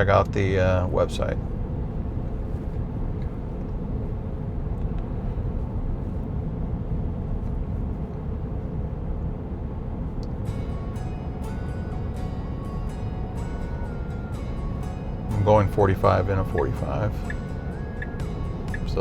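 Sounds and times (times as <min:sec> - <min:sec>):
road and tyre noise in cabin: 0:00.0 - 0:19.0.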